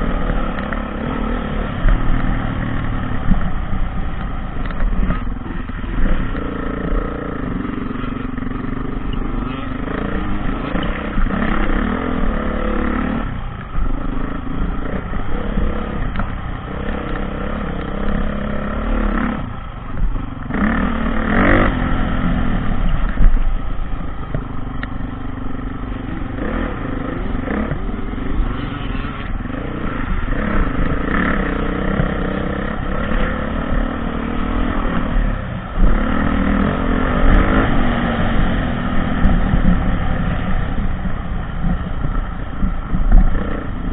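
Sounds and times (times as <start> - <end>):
dirt bike engine revving: 0.0 - 19.8, 20.4 - 43.9.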